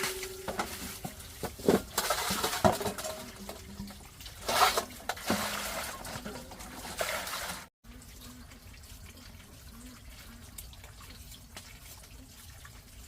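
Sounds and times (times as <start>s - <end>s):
water running and splashing: 0.0s - 13.0s
water trickling: 0.0s - 13.0s.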